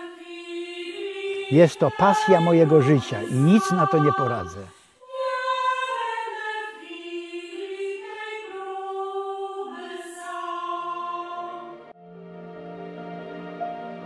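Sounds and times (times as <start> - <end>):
choir singing slow melody: 0.0 - 12.2.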